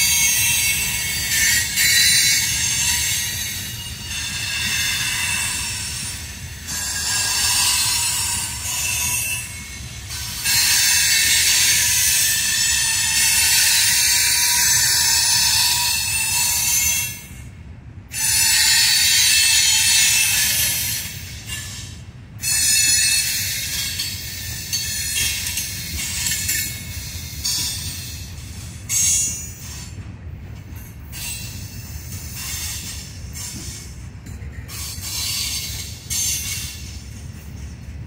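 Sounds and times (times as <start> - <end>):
steel wheels squealing: 0.0 - 17.4, 18.1 - 30.0, 30.6 - 37.8
wheels rumbling on rail: 0.0 - 38.0.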